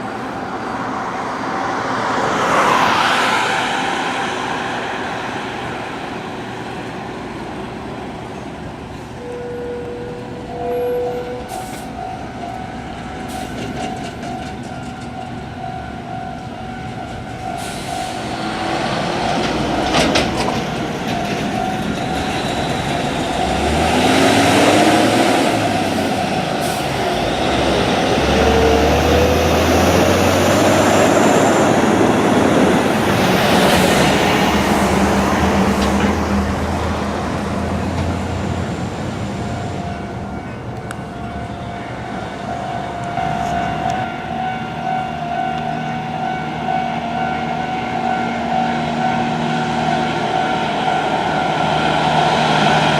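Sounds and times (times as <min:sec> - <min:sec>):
truck engine and tyres rumbling: 0:00.0 - 0:44.4.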